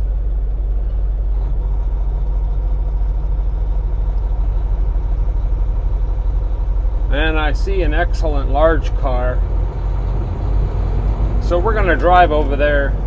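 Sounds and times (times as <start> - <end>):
diesel engine droning: 0.0 - 13.0
road noise: 0.0 - 13.0.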